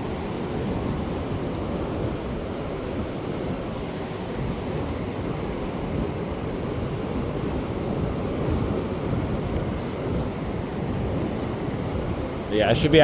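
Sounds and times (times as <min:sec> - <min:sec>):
surf washing: 0:00.0 - 0:13.0
wind noise on microphone: 0:00.0 - 0:13.0.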